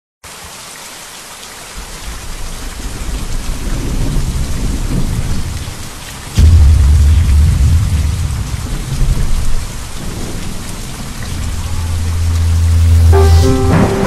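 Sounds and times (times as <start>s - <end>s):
heavy rain: 0.2s - 14.0s
rolling thunder: 2.0s - 14.0s.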